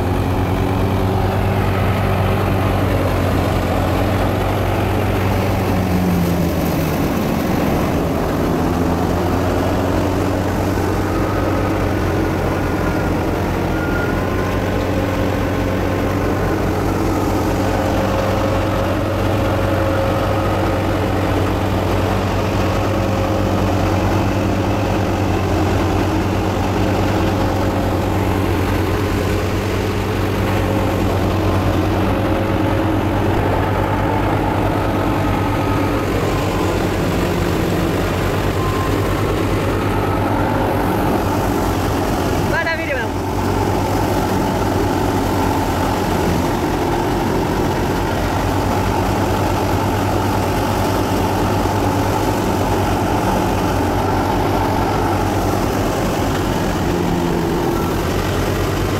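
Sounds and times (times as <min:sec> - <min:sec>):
thresher mechanical drone: 0:00.0 - 0:58.9.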